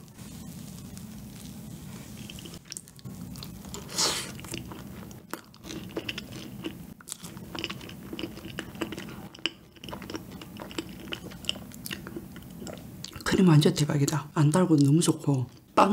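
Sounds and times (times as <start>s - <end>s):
chewing soft donut: 0.6s - 13.4s.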